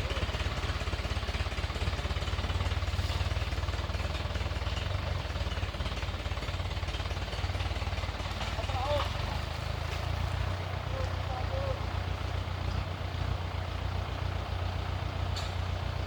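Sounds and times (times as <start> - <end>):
engine chugging: 0.0 - 16.0.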